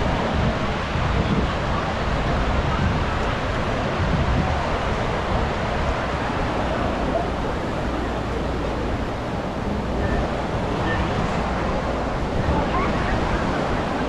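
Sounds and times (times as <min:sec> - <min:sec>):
ocean surf on a beach: 0:00.0 - 0:14.0
wind buffeting microphone: 0:00.0 - 0:14.0.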